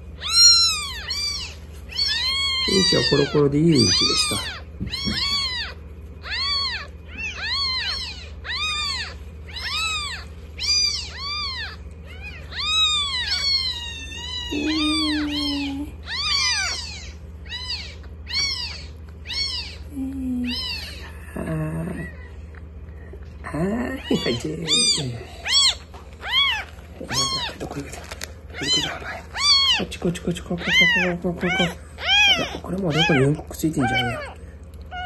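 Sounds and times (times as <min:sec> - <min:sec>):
steady low hum: 0:00.0 - 0:35.0
kitten mewing: 0:00.2 - 0:22.3, 0:23.4 - 0:35.0.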